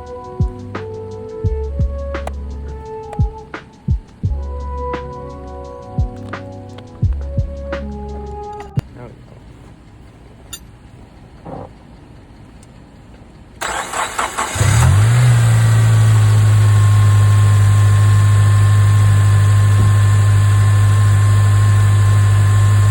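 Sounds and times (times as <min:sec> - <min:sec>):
car engine starting and idling: 0:00.0 - 0:22.9.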